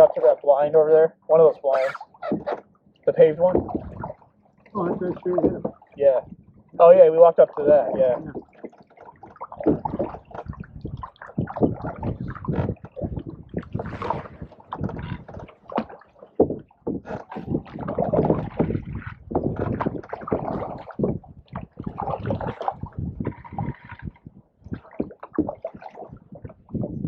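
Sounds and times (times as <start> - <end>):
water splashing along hull: 0.0 - 27.0
canoe paddles dipping in water: 1.6 - 27.0.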